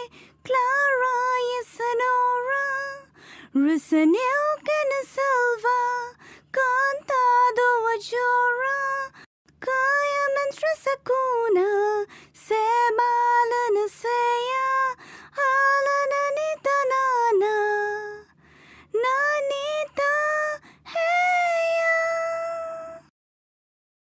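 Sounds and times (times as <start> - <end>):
woman singing: 0.0 - 23.1.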